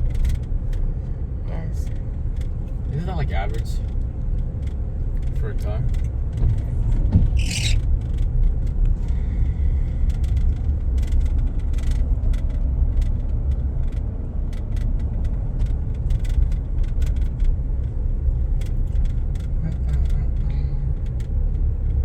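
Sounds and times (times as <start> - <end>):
light ticks and rattles: 0.0 - 1.2, 1.8 - 22.0
road and engine rumble: 0.0 - 22.0.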